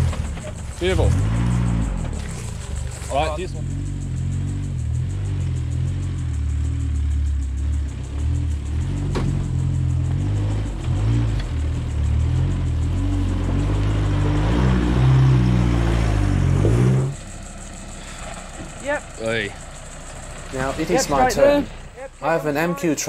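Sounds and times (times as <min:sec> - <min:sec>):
tyres crunching on dirt: 0:00.0 - 0:06.0, 0:08.0 - 0:23.0
truck engine: 0:00.0 - 0:23.0.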